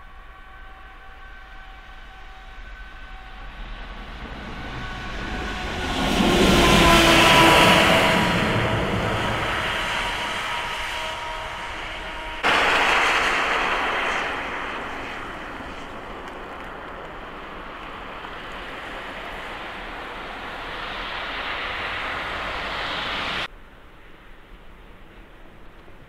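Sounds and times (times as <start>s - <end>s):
passing vehicles: 2.5s - 23.5s.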